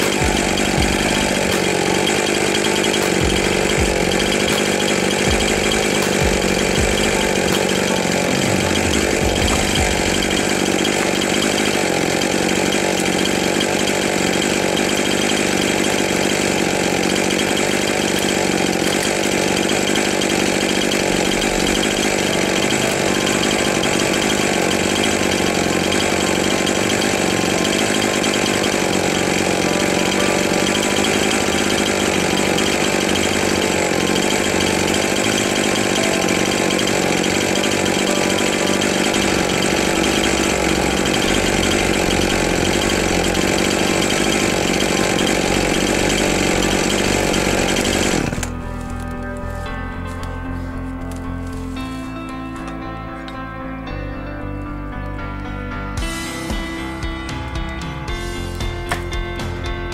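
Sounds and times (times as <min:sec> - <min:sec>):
chainsaw engine idling: 0:00.0 - 0:54.8, 0:56.0 - 0:59.9.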